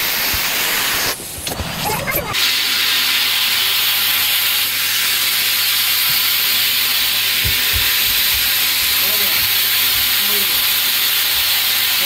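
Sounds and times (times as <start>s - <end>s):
vacuum cleaner motor running: 0.0s - 12.0s.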